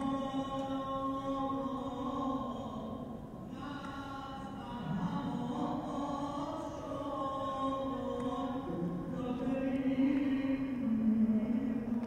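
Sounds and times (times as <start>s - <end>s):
man chanting in long notes: 0.0s - 12.0s.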